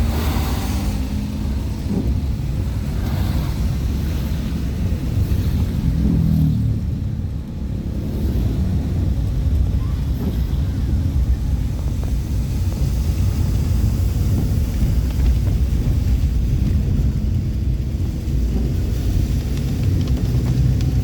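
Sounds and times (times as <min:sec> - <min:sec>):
waterfall rumble: 0:00.0 - 0:21.0
wind buffeting microphone: 0:00.0 - 0:21.0.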